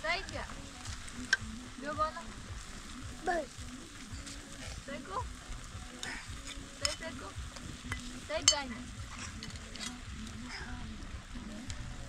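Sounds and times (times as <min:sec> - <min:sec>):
egg sizzling in a frying pan: 0:00.0 - 0:12.0.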